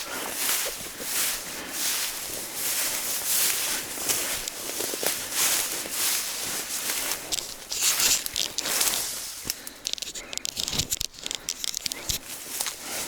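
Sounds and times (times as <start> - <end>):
footsteps through dense vegetation: 0.0 - 10.4, 11.9 - 13.0.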